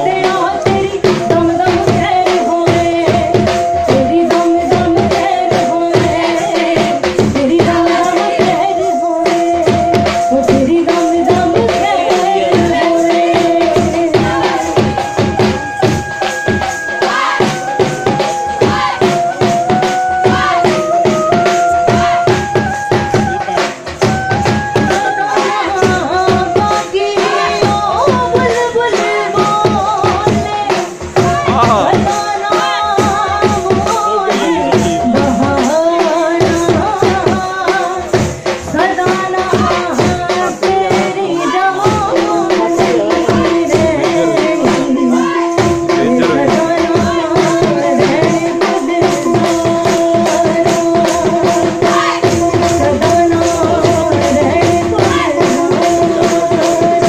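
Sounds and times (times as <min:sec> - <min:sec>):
person singing: 0:00.0 - 0:30.3, 0:31.2 - 0:38.1, 0:38.7 - 0:57.0
fast drum beat: 0:00.0 - 0:57.0
jingling rattling percussion: 0:00.0 - 0:57.0.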